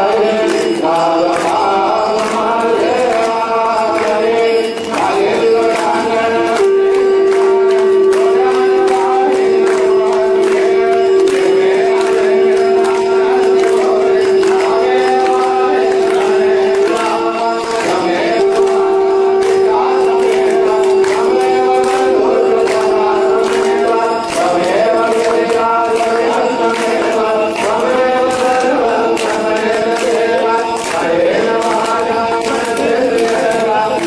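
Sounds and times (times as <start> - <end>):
group singing a chant: 0.0 - 34.0
steady musical accompaniment: 0.0 - 34.0.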